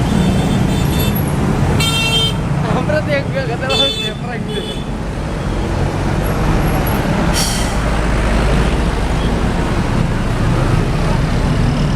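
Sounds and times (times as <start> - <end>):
diesel bus engine rumbling: 0.0 - 11.9.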